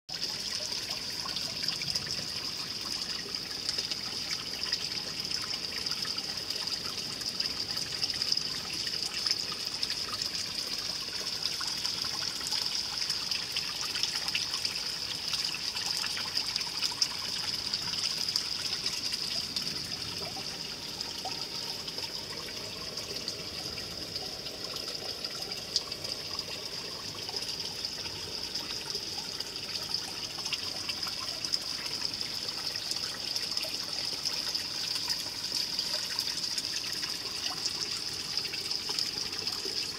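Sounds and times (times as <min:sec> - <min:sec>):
water trickling: 0:00.1 - 0:39.9.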